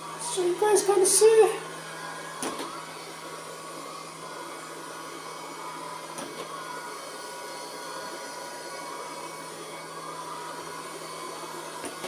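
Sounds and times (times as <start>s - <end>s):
robot vacuum cleaner whirring: 0.0s - 12.0s.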